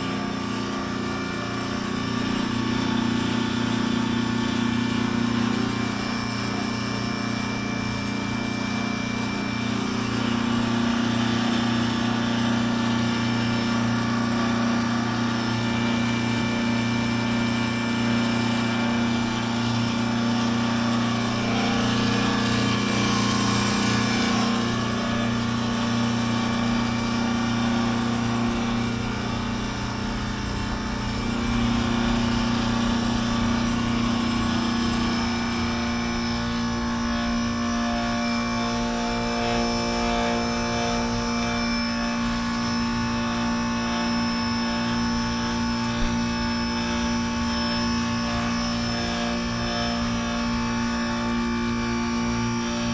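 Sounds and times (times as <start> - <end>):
heat pump compressor humming: 0.0 - 52.9.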